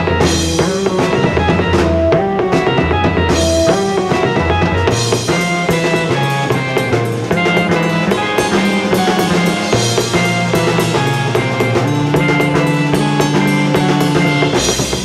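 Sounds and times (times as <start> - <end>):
bass notes: 0.0 - 15.0
drum kit with cymbals and snare: 0.0 - 15.0
sustained keyboard tones: 0.0 - 15.0.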